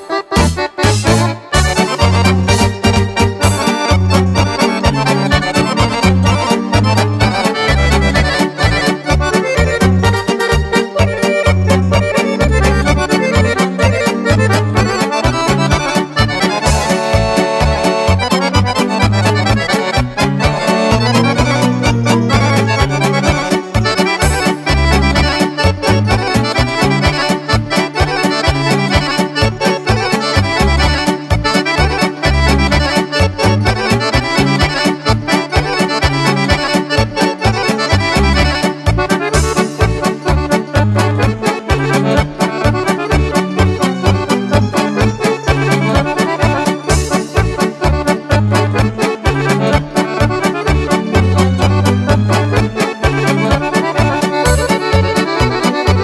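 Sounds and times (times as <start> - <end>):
accordion dance tune: 0.0 - 56.0
bass line and steady beat: 0.0 - 56.0.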